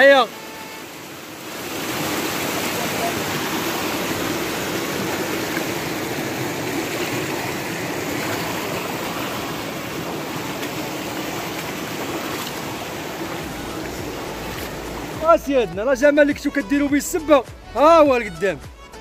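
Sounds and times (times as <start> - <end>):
stream rushing over stones: 0.0 - 18.6.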